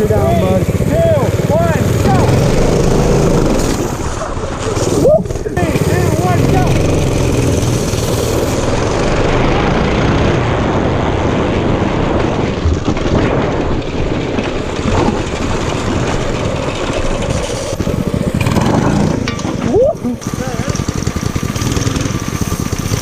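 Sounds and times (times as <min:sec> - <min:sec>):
mini bike engine running: 0:00.0 - 0:23.0.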